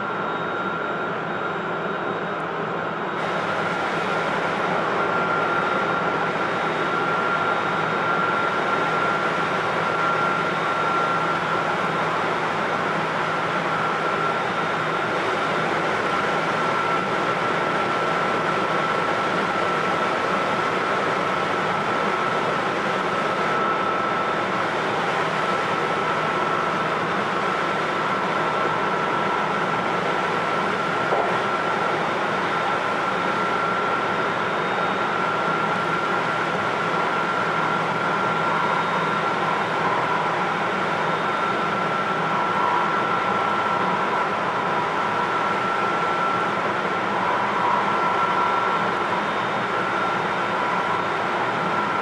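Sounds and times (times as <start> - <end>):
high motor whine: 0.0 - 52.0.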